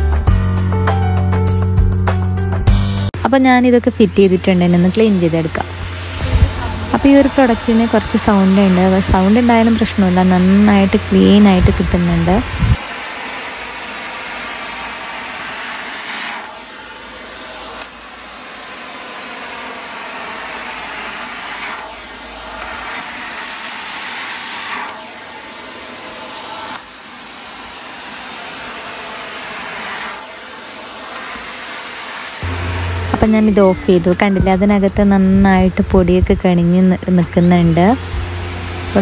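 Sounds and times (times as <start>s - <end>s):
vacuum cleaner running: 3.2s - 39.0s.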